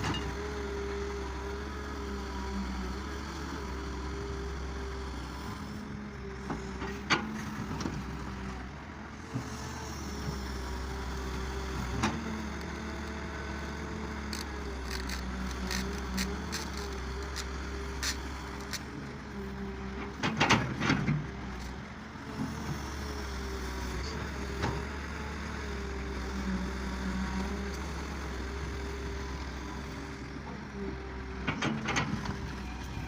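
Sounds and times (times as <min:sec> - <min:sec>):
farm machine engine humming: 0:00.0 - 0:33.0.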